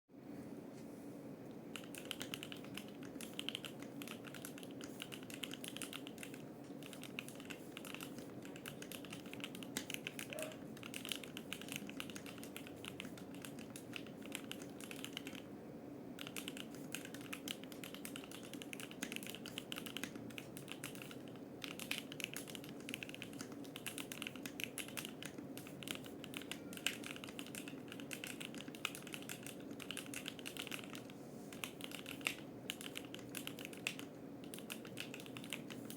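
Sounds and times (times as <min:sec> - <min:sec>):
mechanical keyboard typing: 0:01.7 - 0:15.4, 0:16.2 - 0:35.9.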